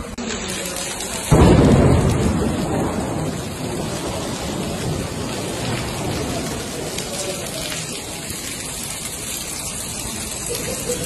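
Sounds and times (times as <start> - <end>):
heavy rain: 0.0 - 11.0
thunderclap rumbling: 0.8 - 11.0.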